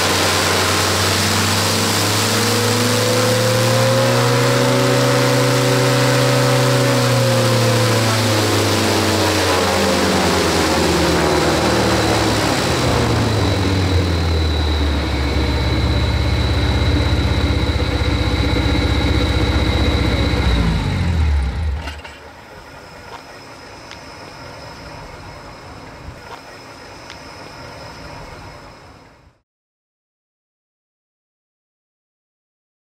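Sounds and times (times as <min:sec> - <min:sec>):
propeller coasting down: 0:00.0 - 0:29.1
engine driving a propeller: 0:00.0 - 0:29.4.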